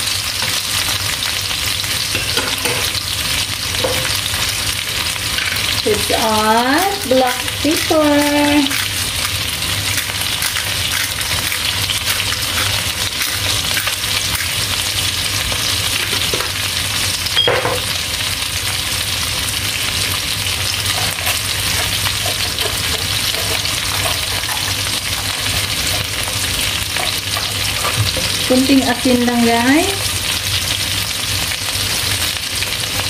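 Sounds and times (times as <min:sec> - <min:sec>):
food sizzling in a wok: 0:00.0 - 0:33.0.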